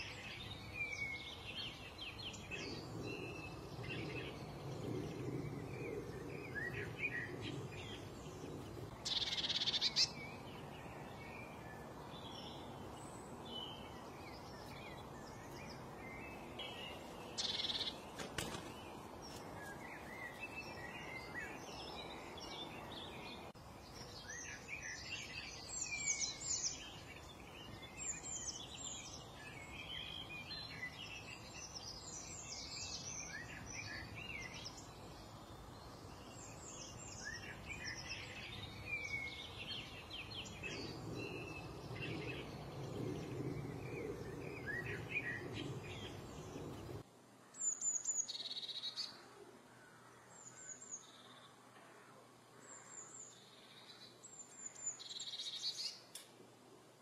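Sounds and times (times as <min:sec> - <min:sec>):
small birds chirping: 0:00.0 - 0:57.0
steady background hiss: 0:00.0 - 0:57.0.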